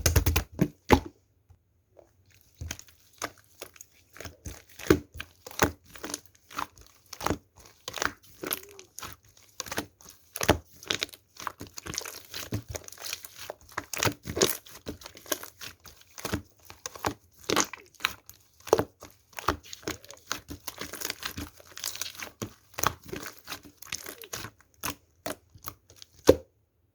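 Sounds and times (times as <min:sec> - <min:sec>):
slime squished by hand: 0:02.2 - 0:26.5.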